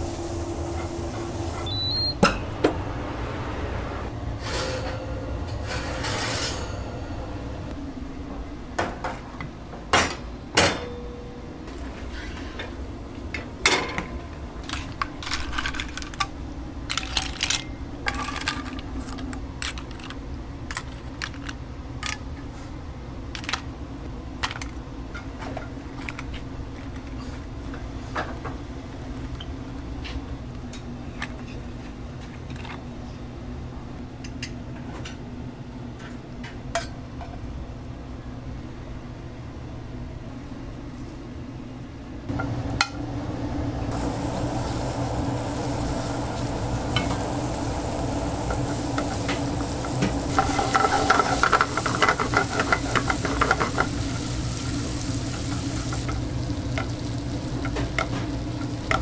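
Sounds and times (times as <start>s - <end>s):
low kitchen hum: 0.0s - 59.0s.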